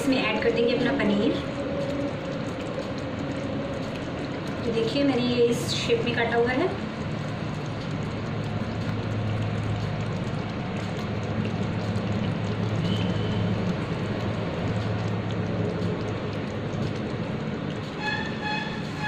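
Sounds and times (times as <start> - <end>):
gravy sizzling: 0.0 - 19.0.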